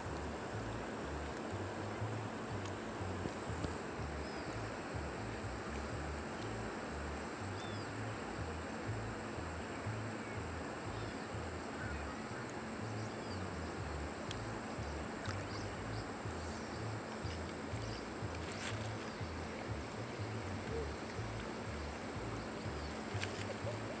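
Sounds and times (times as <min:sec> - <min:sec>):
steady high whine: 0:00.0 - 0:24.0.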